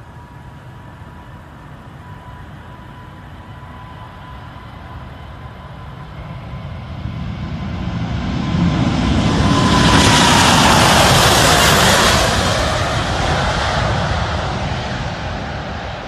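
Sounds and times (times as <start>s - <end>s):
jet engine whine: 0.0s - 16.0s
jet engines at takeoff power: 0.0s - 16.0s.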